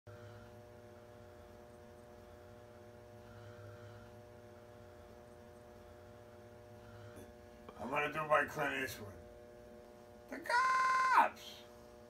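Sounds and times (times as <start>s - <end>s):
faint steady hum with drone: 0.1s - 12.0s.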